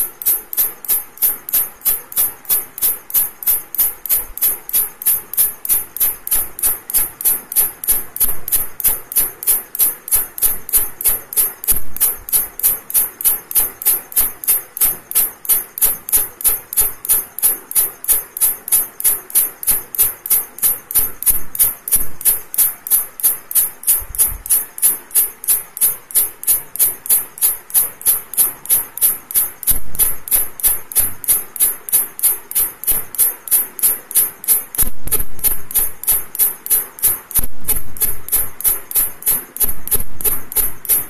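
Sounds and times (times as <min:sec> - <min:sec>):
grasshopper chirping: 0:00.0 - 0:41.0.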